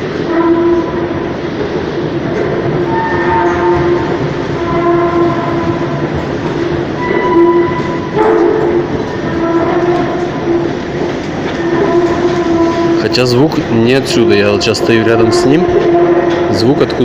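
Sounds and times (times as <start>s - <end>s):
long horn-like moaning tones: 0.3s - 1.2s, 2.9s - 6.3s, 7.0s - 17.0s.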